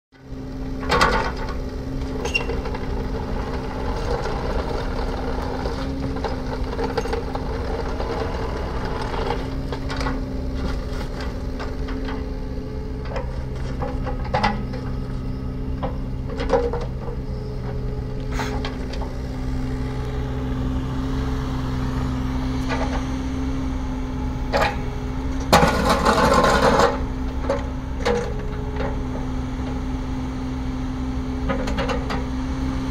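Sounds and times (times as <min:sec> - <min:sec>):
excavator diesel engine running: 0:00.2 - 0:32.9.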